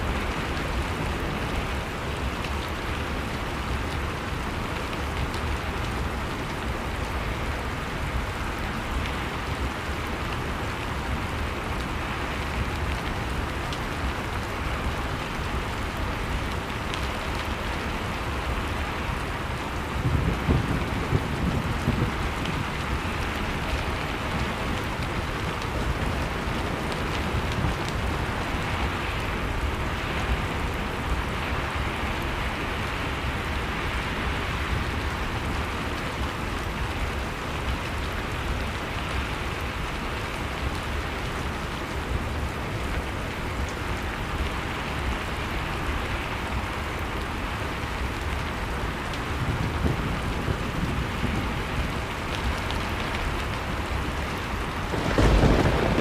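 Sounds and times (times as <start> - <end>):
log fire crackling: 0.1 - 56.0.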